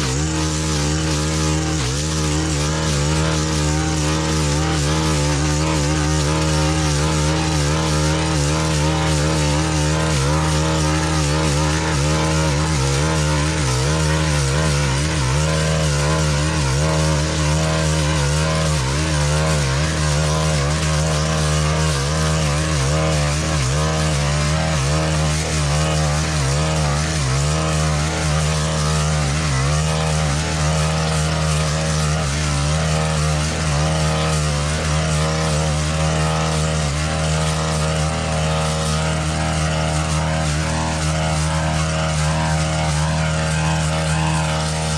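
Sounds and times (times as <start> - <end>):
blade cutting through grass: 0.0 - 44.9
brush cutter engine running: 0.0 - 44.9.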